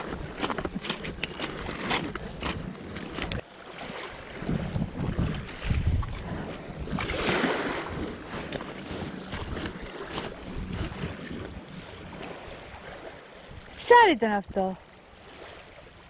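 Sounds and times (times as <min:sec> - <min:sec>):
seawater splashing and sloshing: 0:00.0 - 0:16.0
wind rumbling on microphone: 0:00.0 - 0:16.0.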